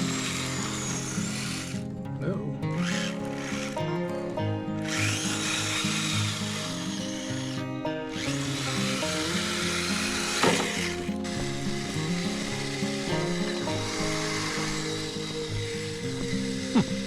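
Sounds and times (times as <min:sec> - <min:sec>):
electric motor and gears whining: 0:00.0 - 0:17.0.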